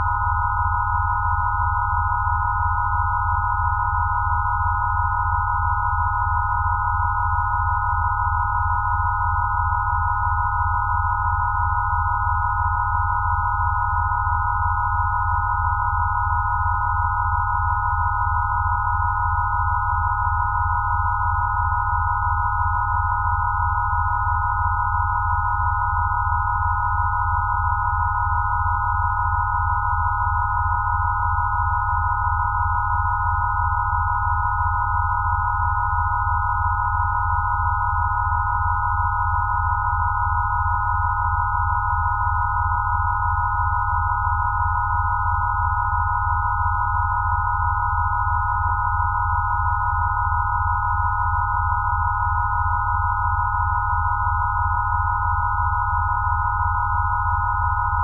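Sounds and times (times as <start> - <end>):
steady pure sine tones: 0.0 - 58.0.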